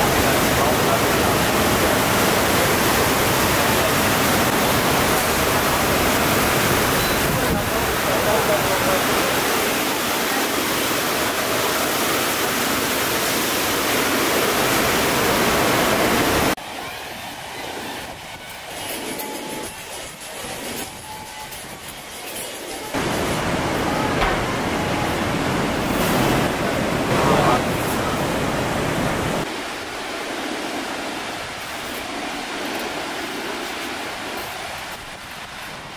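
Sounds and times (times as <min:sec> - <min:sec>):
ocean surf breaking: 0:00.0 - 0:19.5, 0:22.9 - 0:35.9.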